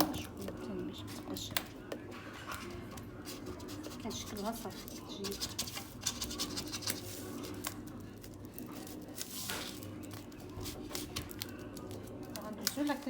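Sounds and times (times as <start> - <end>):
fingers squishing dough: 0.0 - 13.0.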